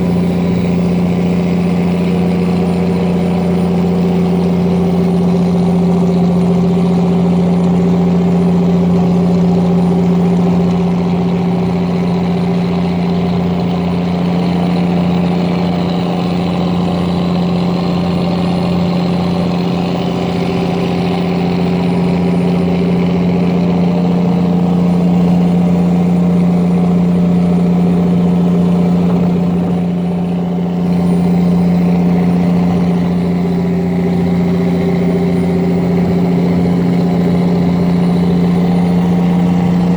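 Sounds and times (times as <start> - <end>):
engine low drone: 0.0 - 39.9.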